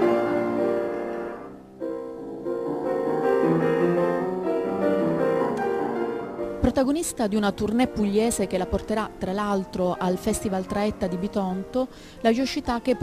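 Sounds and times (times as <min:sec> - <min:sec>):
solo grand piano: 0:00.0 - 0:13.0.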